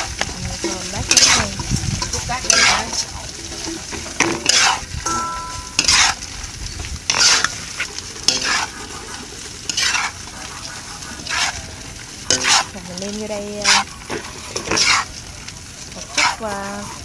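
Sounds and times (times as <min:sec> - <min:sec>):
rice sizzling: 0:00.0 - 0:17.0
spatula scraping frying pan: 0:00.0 - 0:17.0.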